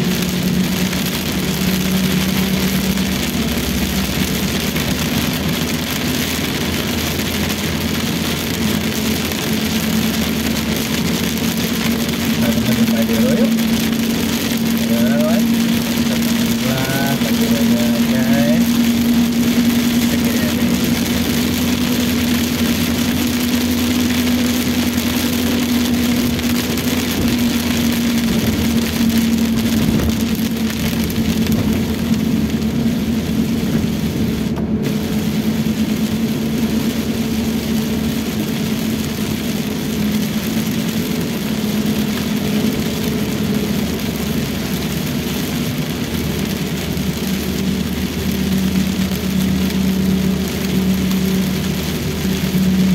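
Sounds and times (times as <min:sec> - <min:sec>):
low engine hum: 0:00.0 - 0:52.9
rain and tyres hissing on wet road: 0:00.0 - 0:52.9.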